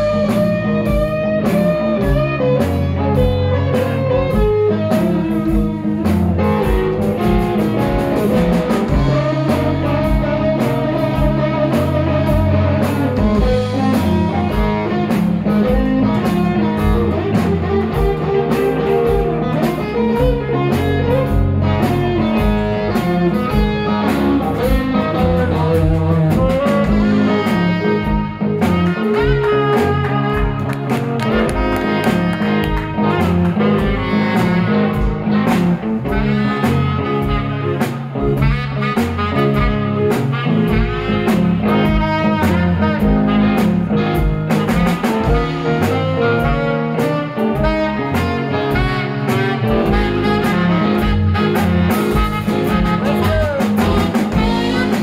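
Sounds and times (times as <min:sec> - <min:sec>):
drum kit beat: 0:00.0 - 0:55.0
electric guitars: 0:00.0 - 0:55.0
saxophone lead: 0:00.0 - 0:55.0.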